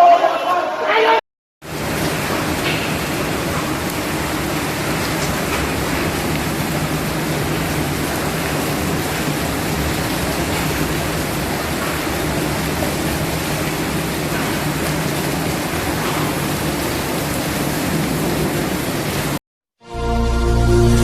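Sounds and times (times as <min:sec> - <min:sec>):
heavy rain and hail: 0:01.6 - 0:19.4.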